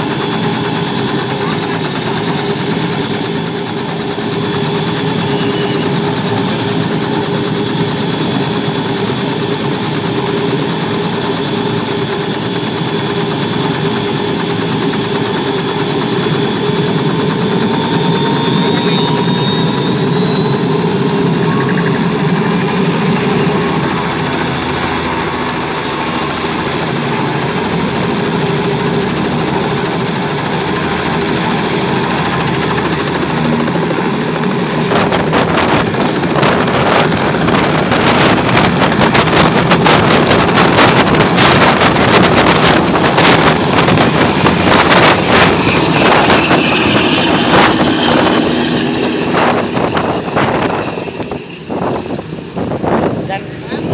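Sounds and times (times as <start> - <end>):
helicopter turbine whine: 0.0 - 53.9.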